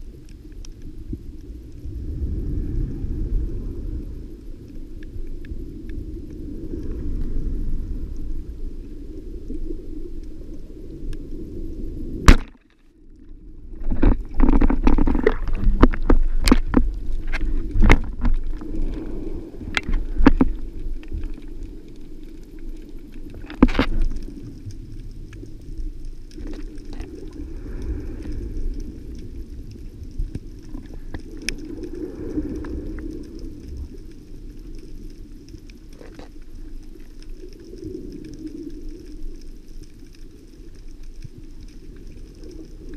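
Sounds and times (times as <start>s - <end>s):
low underwater rush: 0.0s - 42.9s.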